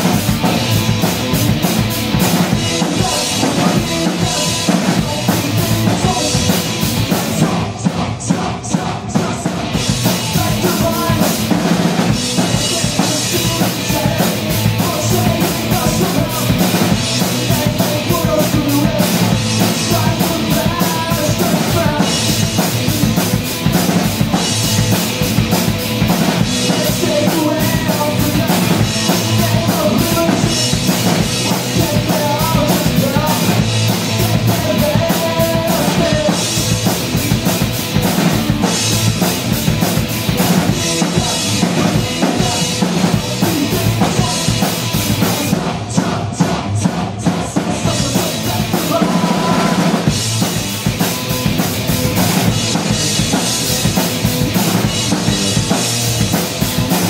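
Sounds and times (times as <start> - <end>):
distorted electric guitar: 0.0 - 57.0
fast rock drumming: 0.0 - 57.0.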